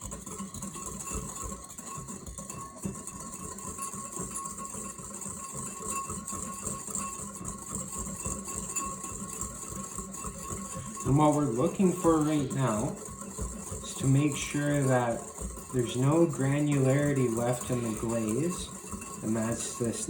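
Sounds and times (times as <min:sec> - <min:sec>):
whisk scraping in a bowl: 0:00.0 - 0:20.0.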